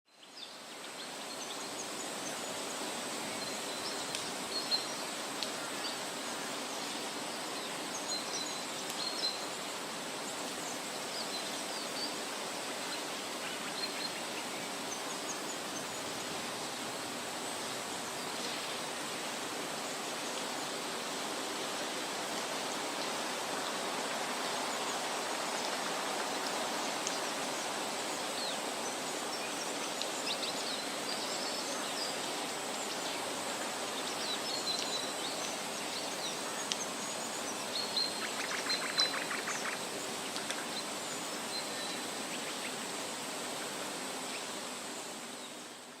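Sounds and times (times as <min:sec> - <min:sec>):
outdoor background hiss: 0:00.1 - 0:46.0.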